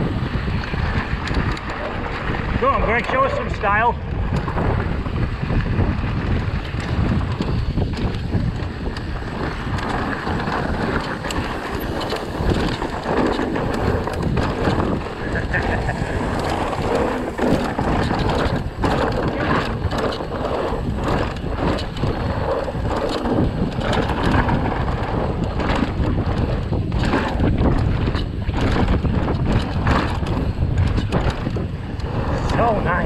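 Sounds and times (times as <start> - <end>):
bike rattles and knocks: 0.0 - 33.0
bike tyres rumbling: 0.0 - 33.0
wind buffeting microphone: 0.0 - 33.0.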